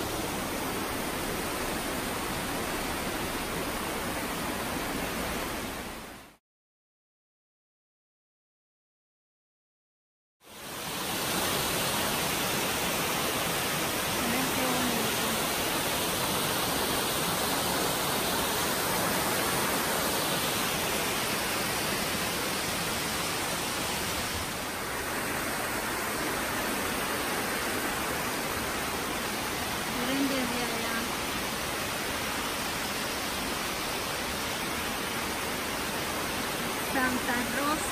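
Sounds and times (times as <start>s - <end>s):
stream water cascading over rocks: 0.0s - 6.4s, 10.4s - 37.9s.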